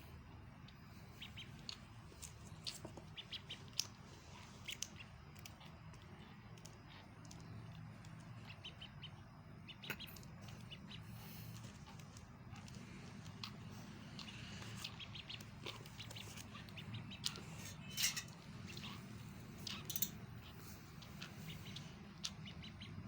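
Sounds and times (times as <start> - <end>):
low background hum: 0.0 - 23.0
duckling peeping: 0.6 - 23.0.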